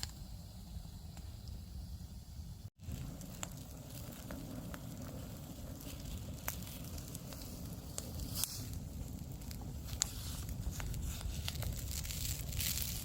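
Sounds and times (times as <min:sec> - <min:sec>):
campfire crackling and popping: 0:00.0 - 0:02.1, 0:02.7 - 0:13.0
steady low rumble: 0:00.0 - 0:13.0.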